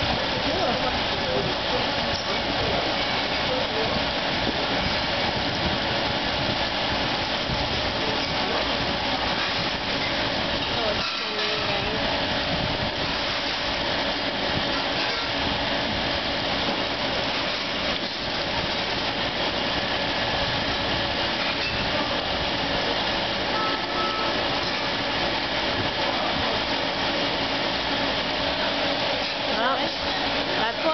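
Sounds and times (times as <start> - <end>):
aeration pumps humming: 0.0 - 30.9.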